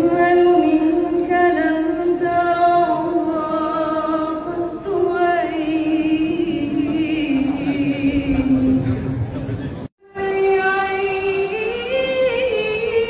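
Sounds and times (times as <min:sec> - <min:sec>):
woman singing into a microphone: 0:00.0 - 0:08.8, 0:10.0 - 0:13.0.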